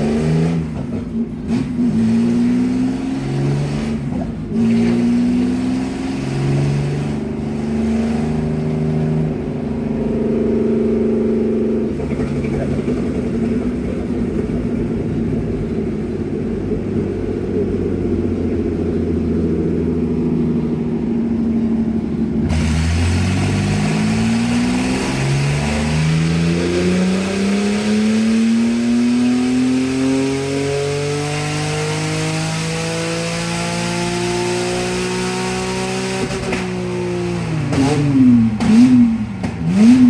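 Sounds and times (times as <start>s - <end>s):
engine revving on dyno: 0.0s - 40.0s.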